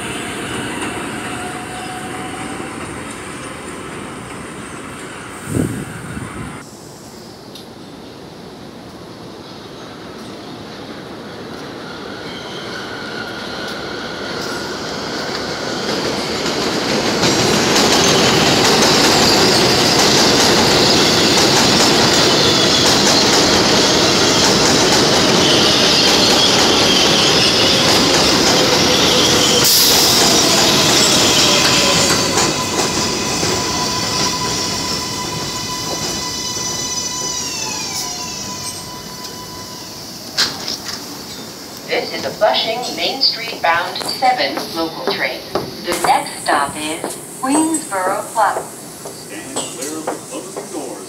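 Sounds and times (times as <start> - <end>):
wheels squealing on rails: 0.0 - 7.0, 11.3 - 48.5
train wheels rumbling on track: 8.8 - 51.0.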